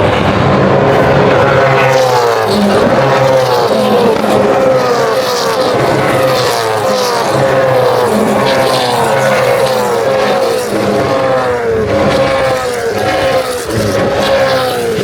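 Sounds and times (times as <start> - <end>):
race cars passing: 0.0 - 15.0.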